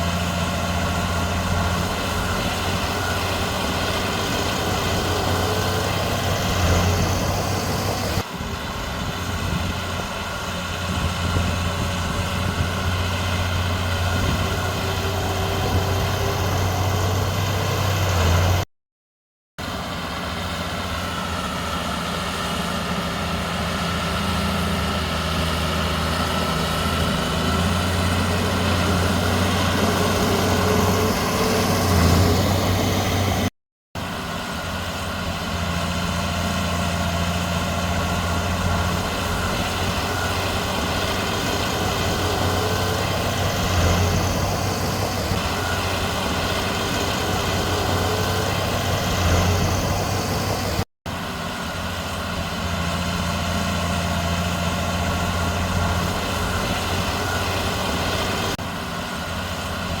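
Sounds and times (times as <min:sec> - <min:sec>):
heavy diesel machinery droning: 0:00.0 - 0:18.7, 0:19.6 - 1:00.0.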